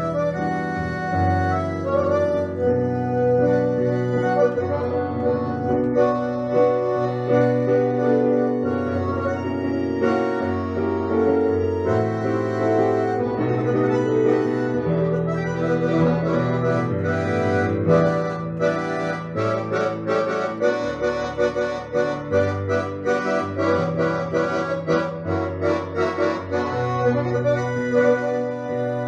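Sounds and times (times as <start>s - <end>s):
accordion melody: 0.0s - 29.0s.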